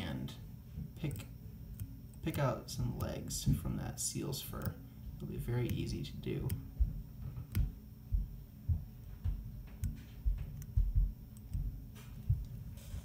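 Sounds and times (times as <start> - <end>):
soft irregular low thumps: 0.5 - 13.0.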